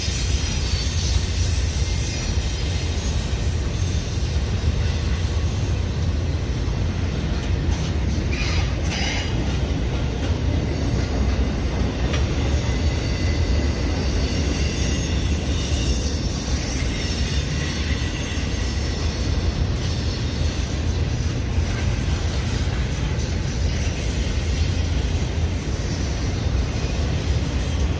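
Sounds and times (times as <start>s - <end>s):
wheel screech: 0.0s - 5.2s, 7.7s - 9.7s, 12.1s - 27.9s
train wheels rumbling on rail: 0.0s - 27.9s.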